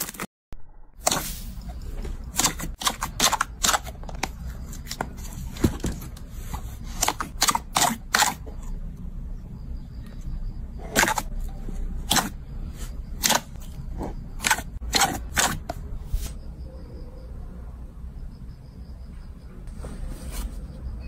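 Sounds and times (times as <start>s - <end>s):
steady low hum: 0.6s - 21.0s.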